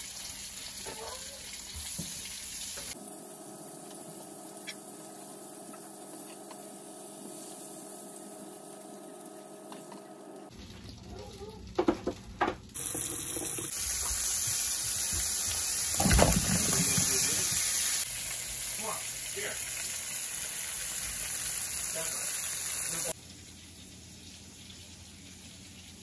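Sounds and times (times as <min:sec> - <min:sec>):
fish frying in a pan: 0:00.0 - 0:09.7, 0:10.4 - 0:26.0
water boiling in a pot: 0:00.0 - 0:26.0.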